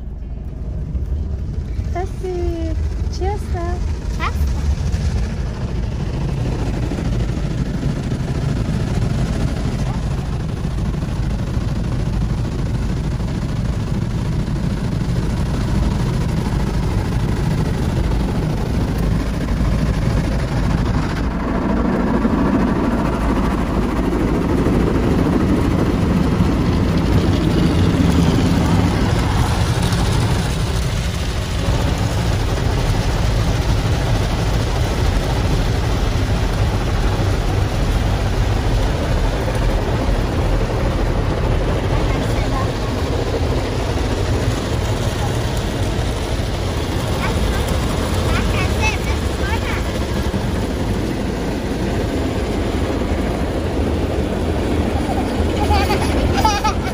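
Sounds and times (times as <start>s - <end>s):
car wash machinery rumble: 0.0s - 56.9s.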